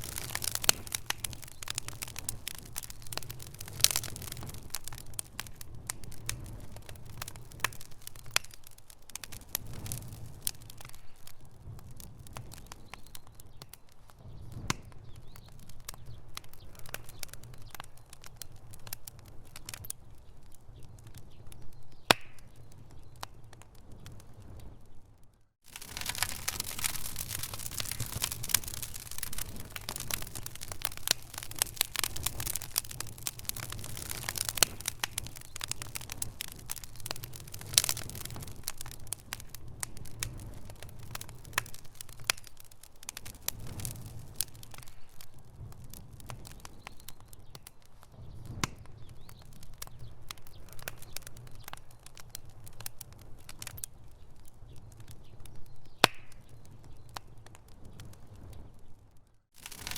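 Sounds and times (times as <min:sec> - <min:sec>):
fire crackling and snapping: 0:00.0 - 0:59.9
low rumble of flame: 0:00.0 - 0:59.9.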